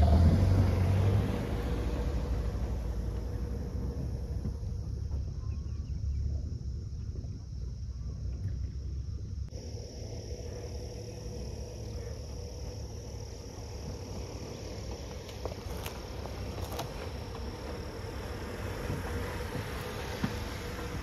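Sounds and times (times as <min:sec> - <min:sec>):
low rumble: 0:00.0 - 0:21.0
night insects chirring: 0:00.0 - 0:21.0.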